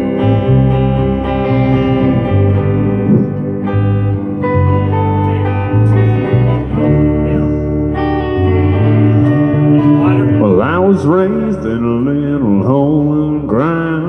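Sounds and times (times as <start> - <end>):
bass line: 0.0 - 14.0
guitar: 0.0 - 14.0.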